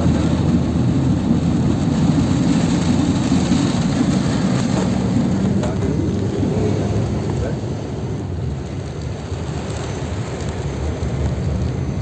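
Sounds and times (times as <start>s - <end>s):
heavy rain hiss: 0.0s - 12.0s
vehicle rumbling: 0.0s - 12.0s.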